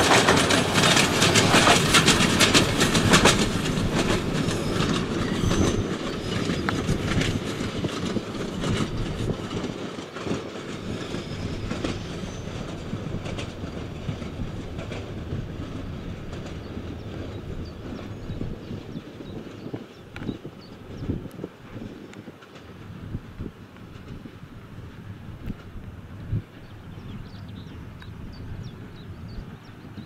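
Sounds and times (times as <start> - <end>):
train wagons rattling over rails: 0.0 - 30.0.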